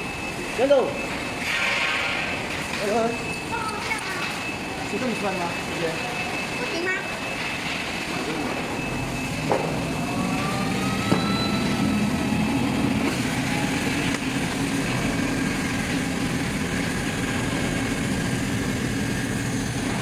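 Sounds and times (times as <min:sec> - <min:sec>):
faint high whining tones: 0:00.0 - 0:20.0
machinery humming: 0:00.0 - 0:20.0.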